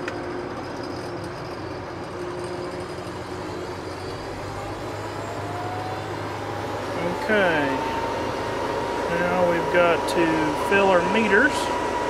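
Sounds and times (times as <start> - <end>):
fans whining: 0.0 - 12.0
tractor diesel engine running: 0.0 - 12.0.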